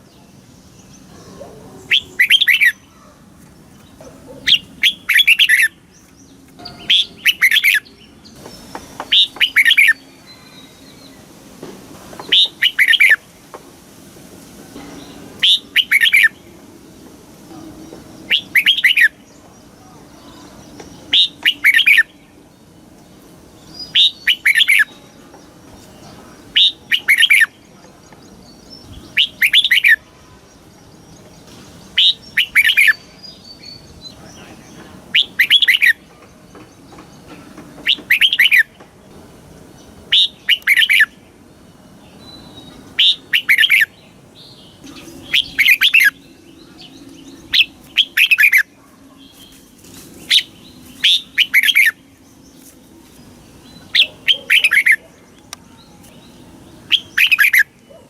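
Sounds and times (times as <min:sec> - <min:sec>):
bird singing warbled phrases: 0:00.0 - 0:11.3, 0:12.1 - 0:13.3, 0:15.0 - 0:16.6, 0:17.4 - 0:58.0.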